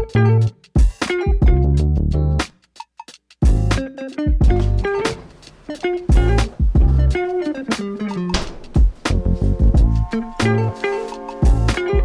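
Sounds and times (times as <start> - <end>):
music with guitar bass and drums: 0.0 - 12.0.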